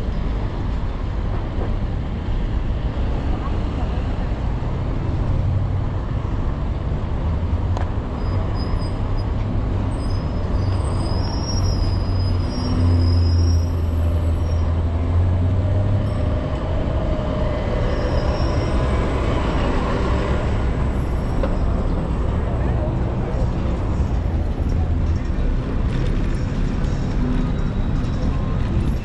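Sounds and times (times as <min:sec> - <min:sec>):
traffic engine rumble: 0:00.0 - 0:29.0.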